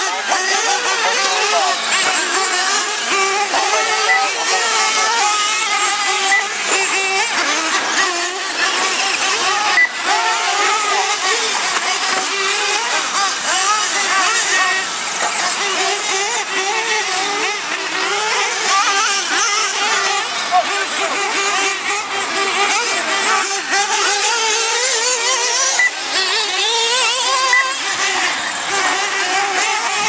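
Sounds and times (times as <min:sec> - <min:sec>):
small engines whining and revving: 0:00.0 - 0:30.0.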